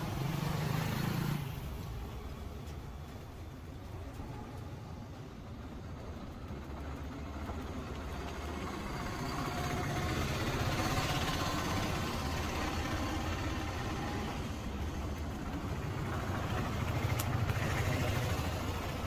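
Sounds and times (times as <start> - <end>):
road noise: 0.0 - 19.0
vehicle engine running: 2.7 - 19.0.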